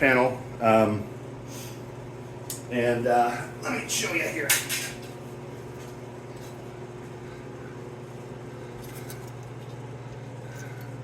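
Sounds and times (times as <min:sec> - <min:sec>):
low hum with faint hiss: 0:00.0 - 0:11.0.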